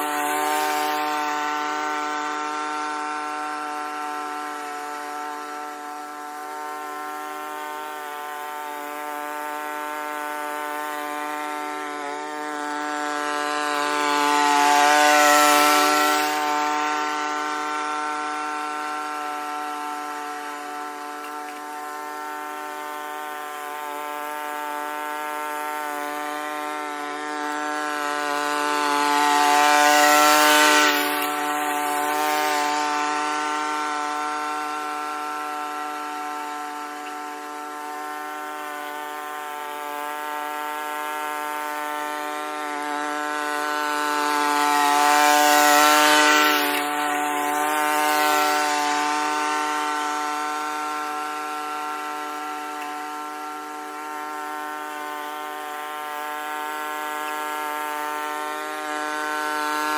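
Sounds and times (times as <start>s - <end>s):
lawn mower cutting grass: 0.0s - 59.9s.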